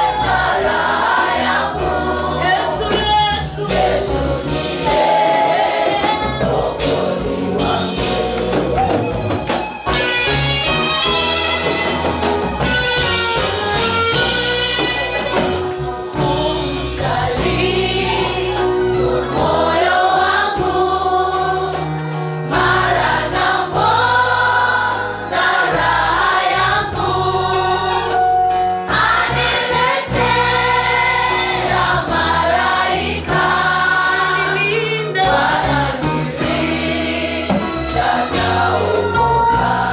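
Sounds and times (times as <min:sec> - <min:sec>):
choir singing gospel hymn: 0:00.0 - 0:39.9.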